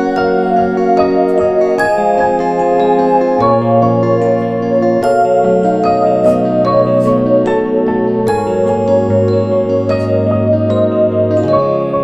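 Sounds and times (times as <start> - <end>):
background music melody over chords: 0.0 - 12.0.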